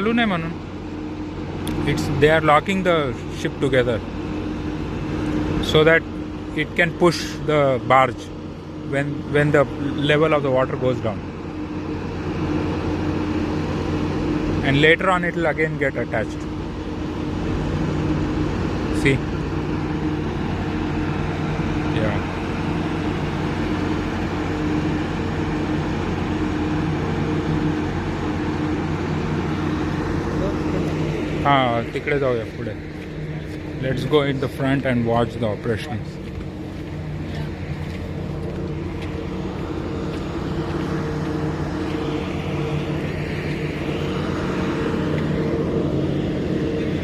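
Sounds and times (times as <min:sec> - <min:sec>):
diesel engines droning: 0:00.0 - 0:47.0.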